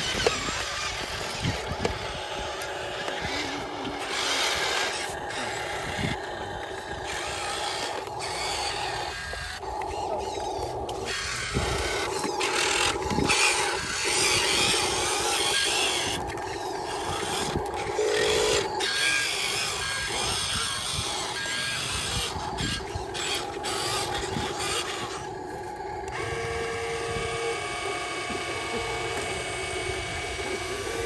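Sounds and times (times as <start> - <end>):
electric motor and gearbox whine: 0.0 - 31.0
steady hum of tipping bed: 0.0 - 31.0.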